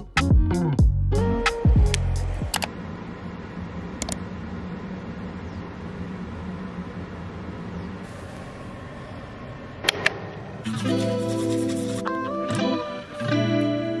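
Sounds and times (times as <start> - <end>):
low hum: 0.9 - 13.2
steady background hiss: 1.4 - 14.0.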